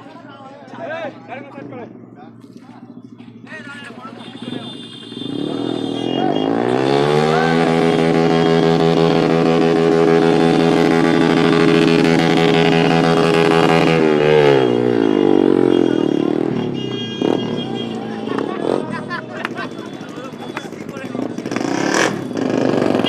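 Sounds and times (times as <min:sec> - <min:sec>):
motorcycle engine revving: 0:01.6 - 0:23.0.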